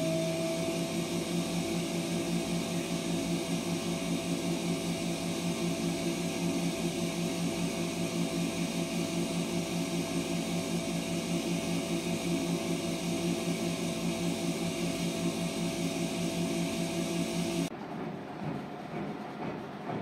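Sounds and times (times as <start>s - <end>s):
washing machine motor and drum hum: 0.0s - 20.0s.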